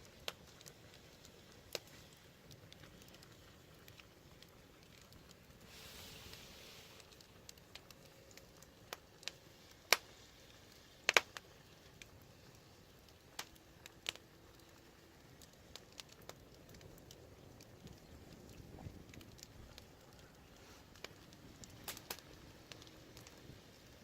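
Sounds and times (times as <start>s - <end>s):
faint hiss: 0.0s - 24.0s
wood fire crackling and popping: 0.0s - 24.0s.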